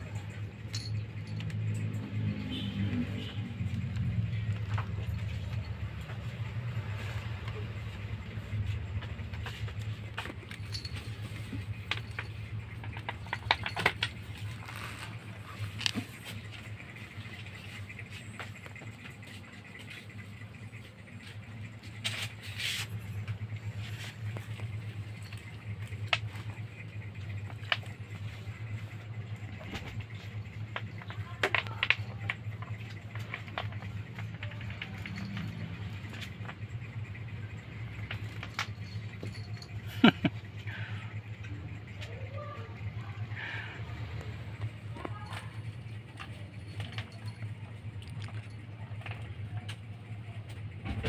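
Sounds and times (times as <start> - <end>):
cat playing with string: 0.0 - 50.7
steady low hum: 0.0 - 51.0.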